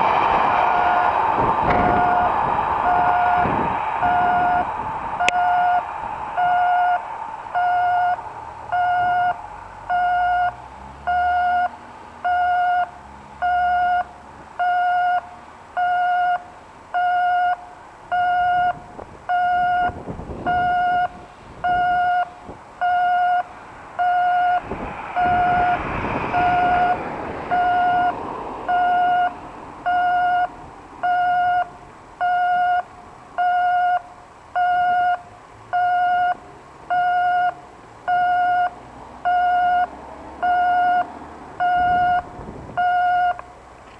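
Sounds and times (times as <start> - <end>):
level crossing alarm beeping: 1.7 - 15.2, 15.8 - 16.4, 17.0 - 34.0, 34.6 - 35.2, 35.8 - 43.4.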